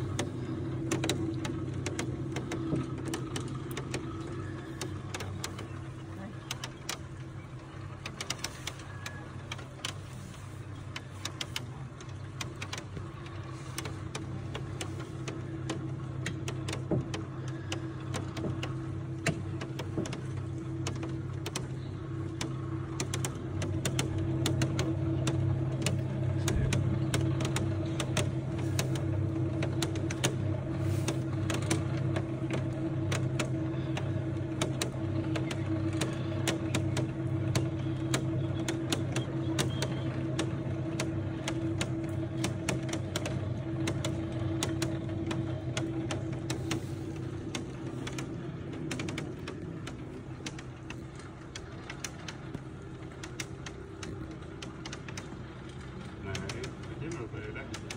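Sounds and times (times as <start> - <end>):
cable lift machinery hum: 0.0 - 57.9
small clicks and rattles: 0.0 - 57.9.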